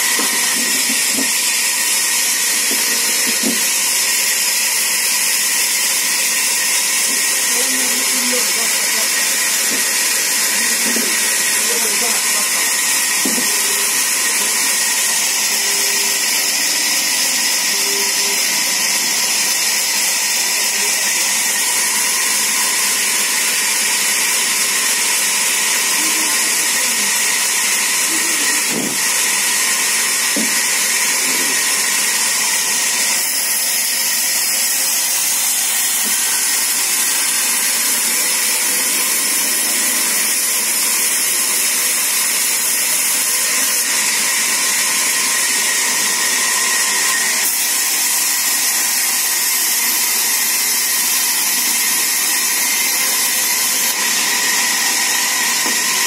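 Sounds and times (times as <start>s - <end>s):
band saw running: 0.0s - 56.0s.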